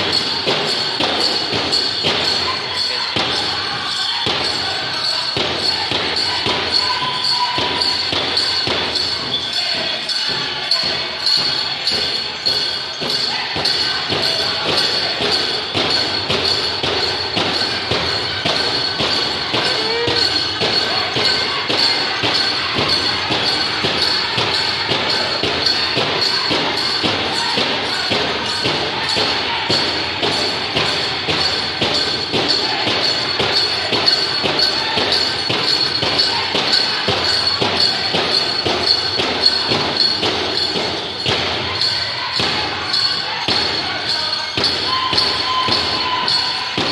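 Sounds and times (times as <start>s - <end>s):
big drum steady beat: 0.0s - 46.9s
high-pitched group singing: 0.0s - 46.9s
jingling bells: 0.0s - 46.9s.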